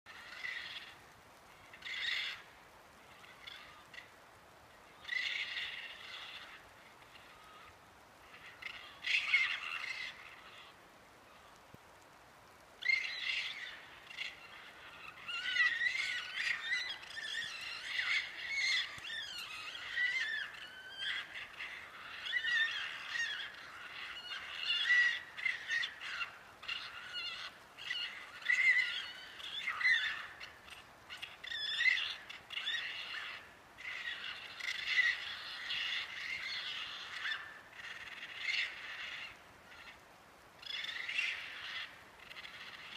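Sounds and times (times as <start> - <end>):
chorus of animals calling: 0.1 - 11.7, 12.5 - 42.9.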